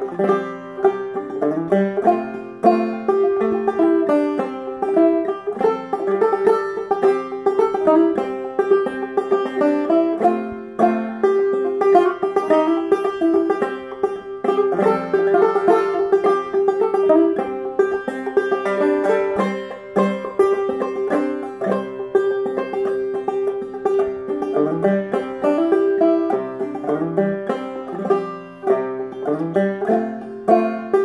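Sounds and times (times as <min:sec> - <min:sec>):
banjo melody: 0:00.0 - 0:31.0.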